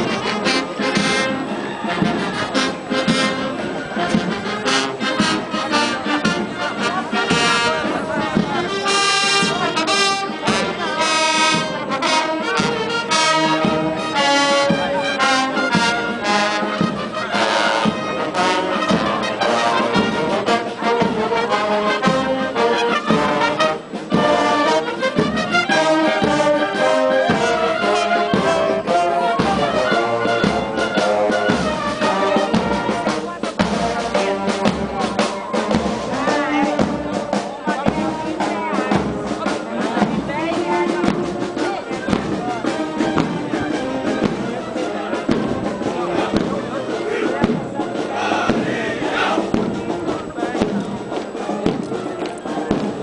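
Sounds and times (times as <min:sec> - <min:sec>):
marching band playing: 0:00.0 - 0:53.0.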